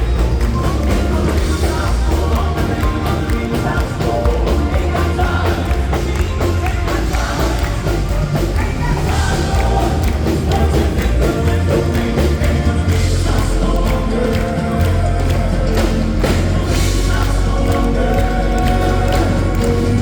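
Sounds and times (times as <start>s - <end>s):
gospel band playing: 0.0s - 20.0s
voices singing in harmony: 0.0s - 20.0s.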